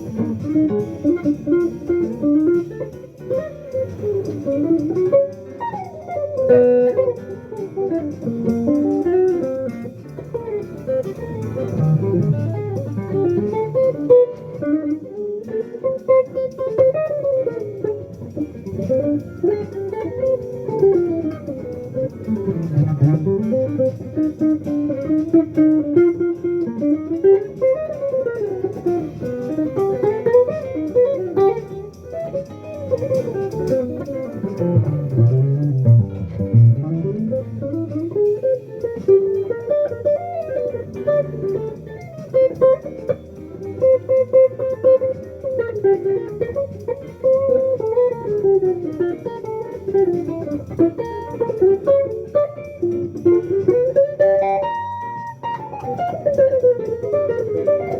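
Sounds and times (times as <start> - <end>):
bass notes: 0.0 - 57.9
jazz guitar single-note line: 0.0 - 57.9.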